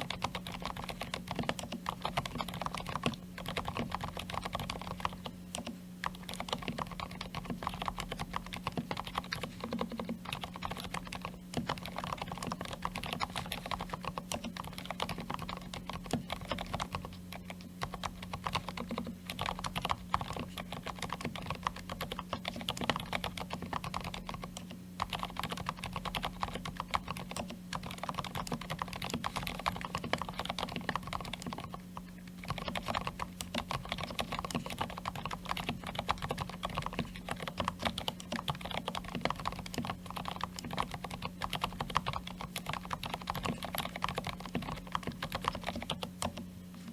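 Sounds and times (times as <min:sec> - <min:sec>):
steady low hum: 0:00.0 - 0:46.9
typing on mechanical keyboard: 0:00.0 - 0:46.9.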